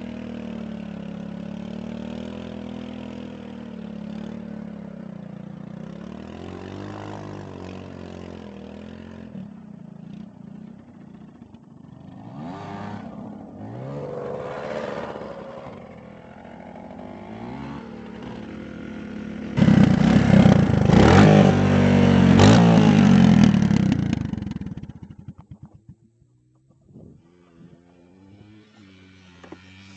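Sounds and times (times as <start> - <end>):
dirt bike engine revving: 0.0 - 5.0, 5.7 - 25.4, 27.1 - 29.9.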